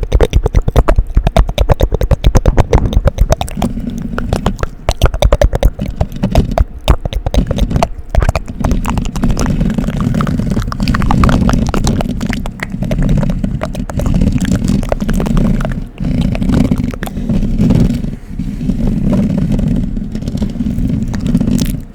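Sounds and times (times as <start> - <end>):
sharp clicks: 0.0 - 17.9
dense rubbing texture: 0.0 - 21.9
heavy low rumble: 0.0 - 21.9
mouth sounds: 0.0 - 21.9.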